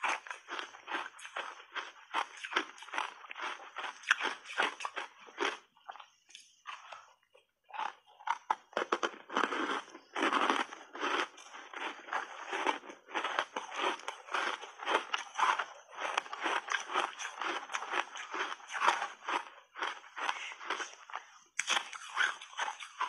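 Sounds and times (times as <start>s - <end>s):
chewing ice crunching: 0.0s - 23.0s.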